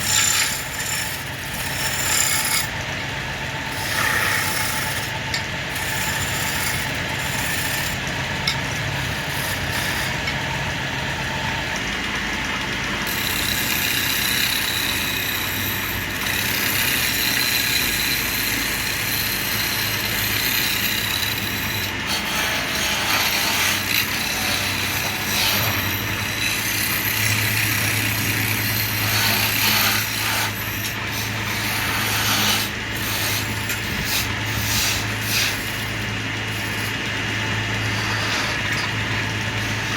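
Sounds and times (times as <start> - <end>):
chisel scraping spinning wood: 0.0 - 39.9
wood lathe motor hum: 0.0 - 39.9.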